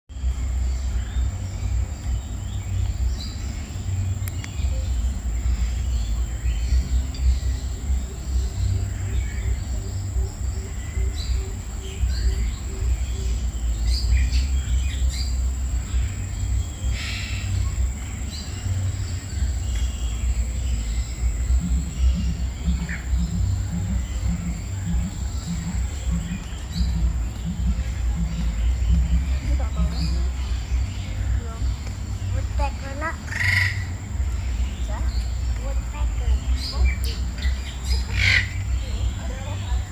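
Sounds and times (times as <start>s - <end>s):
bird chirps: 0.1s - 39.9s
high insect whine: 0.1s - 39.9s
steady low rumble: 0.1s - 39.9s.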